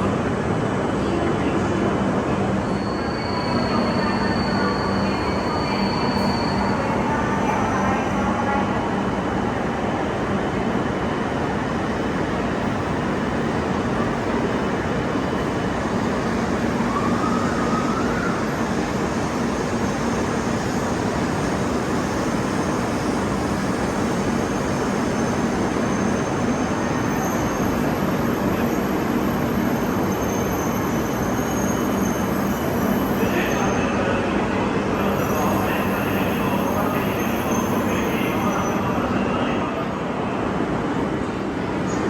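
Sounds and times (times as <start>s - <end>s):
high-speed train rumbling: 0.0s - 42.0s.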